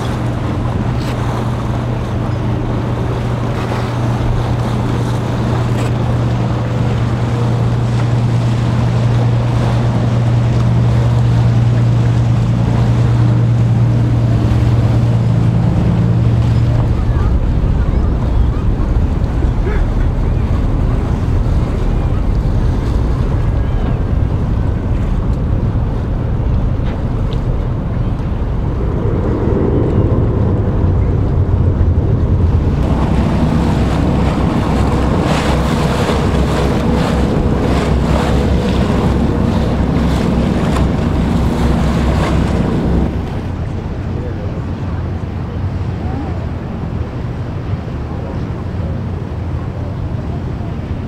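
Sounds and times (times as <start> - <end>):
low boat rumble: 0.0 - 51.0
waves washing: 0.0 - 51.0
wind buffeting microphone: 0.0 - 51.0.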